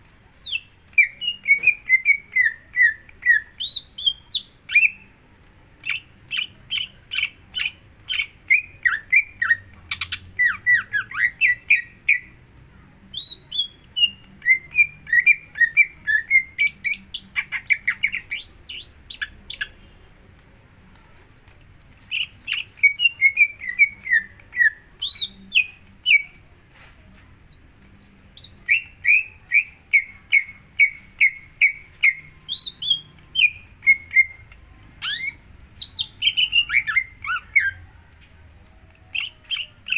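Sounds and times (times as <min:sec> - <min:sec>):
bird chirping song: 0:00.4 - 0:05.2, 0:05.8 - 0:12.4, 0:13.1 - 0:20.0, 0:22.0 - 0:26.4, 0:27.4 - 0:37.9, 0:39.0 - 0:39.9.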